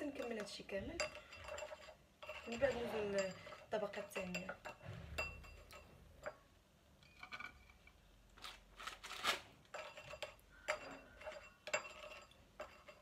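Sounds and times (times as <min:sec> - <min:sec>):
bowl and glass dish clinking: 0:00.0 - 0:07.8, 0:09.7 - 0:13.0.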